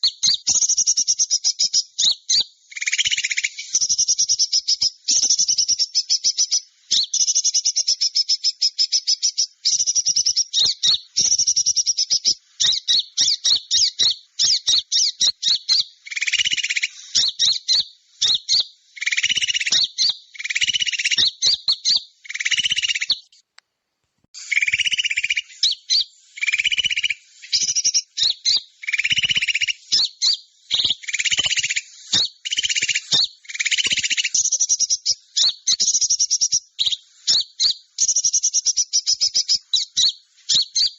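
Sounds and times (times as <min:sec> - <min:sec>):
short lower bird calls: 0:00.0 - 0:23.4, 0:24.4 - 0:40.9
small birds chirping and twittering: 0:00.0 - 0:23.5, 0:24.3 - 0:40.9.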